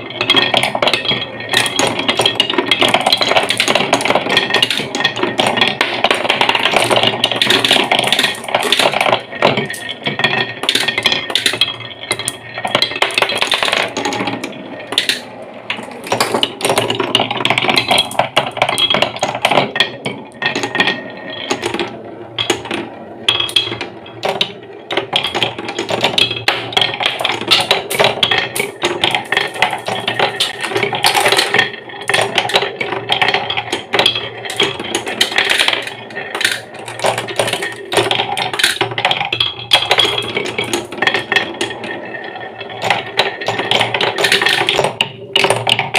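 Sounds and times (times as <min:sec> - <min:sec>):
marbles rolling down wooden run: 0:00.0 - 0:45.9.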